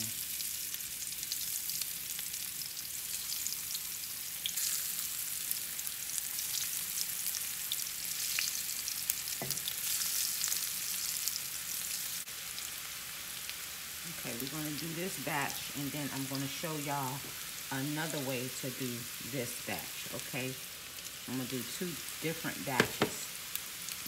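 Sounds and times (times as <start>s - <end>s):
fries sizzling in oil: 0.0s - 24.0s.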